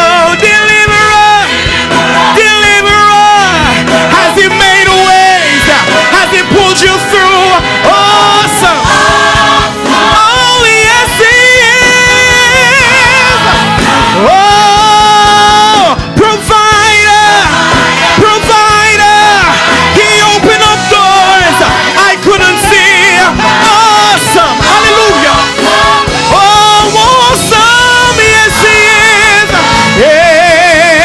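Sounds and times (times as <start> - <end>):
band accompaniment: 0.0 - 31.0
person singing with vibrato: 0.0 - 31.0.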